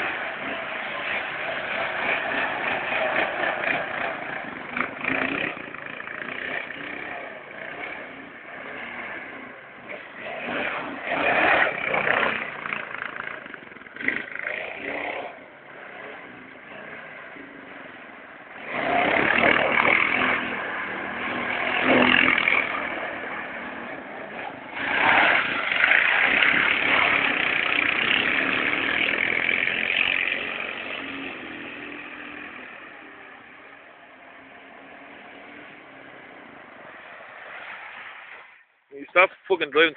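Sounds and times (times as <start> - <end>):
quad bike engine revving: 0.0 - 37.6.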